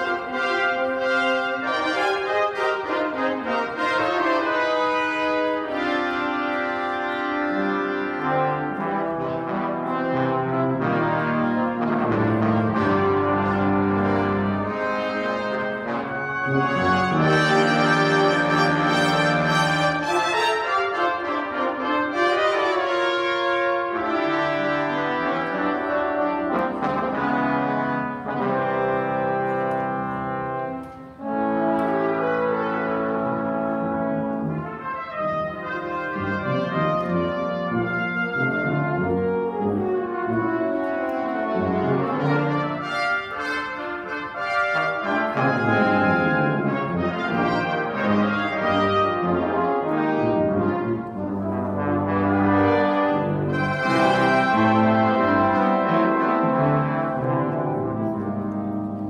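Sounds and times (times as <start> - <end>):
brass fanfare: 0.0 - 59.0.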